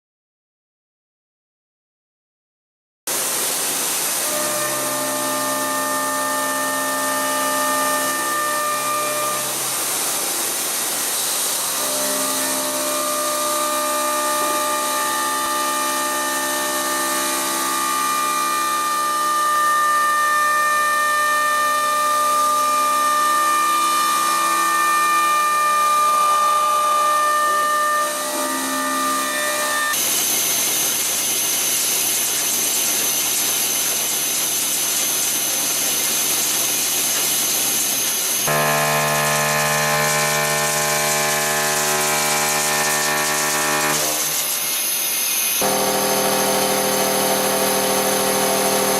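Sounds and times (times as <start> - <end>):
milling machine whine: 3.1 - 48.9.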